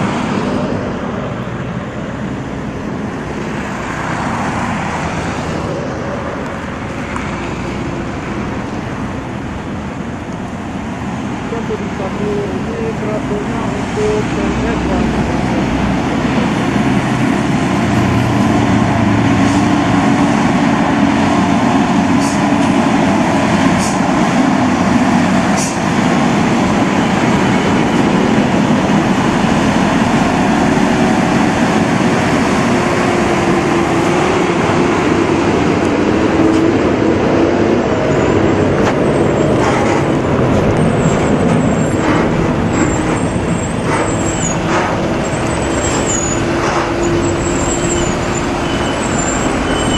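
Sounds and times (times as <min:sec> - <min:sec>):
heavy truck engine running: 0:00.0 - 0:49.9
road noise: 0:00.0 - 0:49.9.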